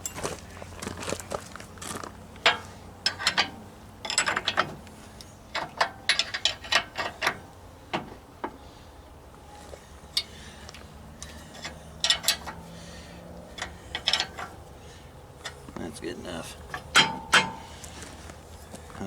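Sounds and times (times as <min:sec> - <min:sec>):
hand tools clicking and clanking: 0:00.0 - 0:08.6, 0:09.6 - 0:19.0.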